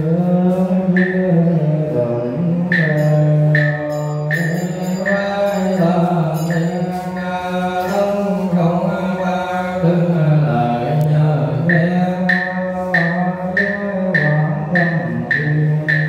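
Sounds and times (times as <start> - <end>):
regular knocking beat: 0.0 - 8.2, 11.0 - 16.0
men chanting: 0.0 - 16.0.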